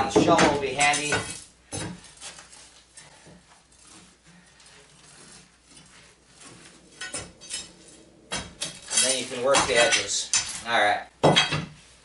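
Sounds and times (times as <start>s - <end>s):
scrapes and clinks of concrete chunks: 0.0s - 11.6s.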